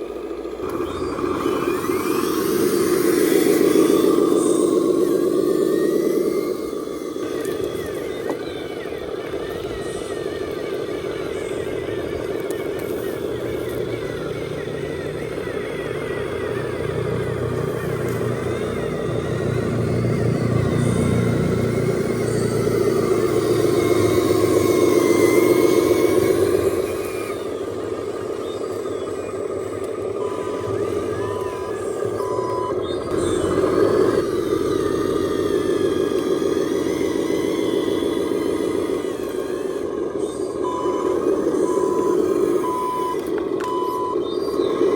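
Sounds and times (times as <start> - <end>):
electric motor and gearbox whirring: 0.0 - 44.9.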